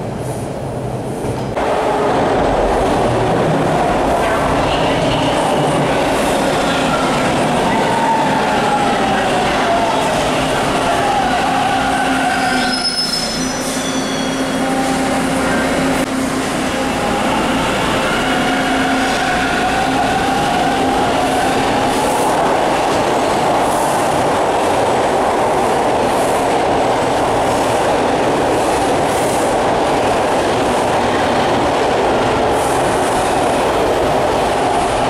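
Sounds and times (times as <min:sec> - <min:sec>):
subway train motor whine: 0:01.6 - 0:35.0.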